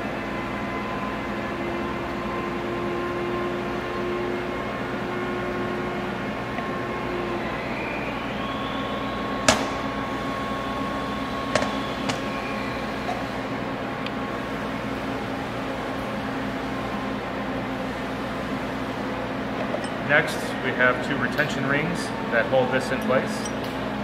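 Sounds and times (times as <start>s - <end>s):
ventilation hum: 0.0s - 24.0s.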